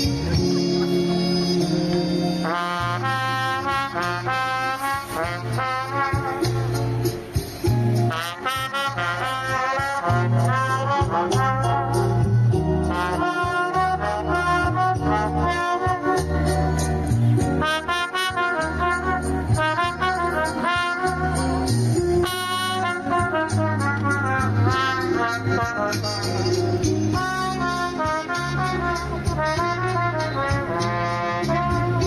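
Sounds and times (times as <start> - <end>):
accompaniment with bass line: 0.0 - 32.0
trumpet melody: 0.0 - 32.0.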